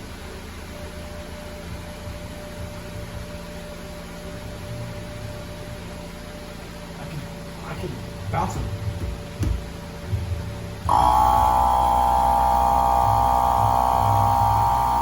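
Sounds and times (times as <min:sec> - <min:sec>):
faint constant tone: 0:00.0 - 0:15.0
mechanical hum: 0:00.0 - 0:15.0.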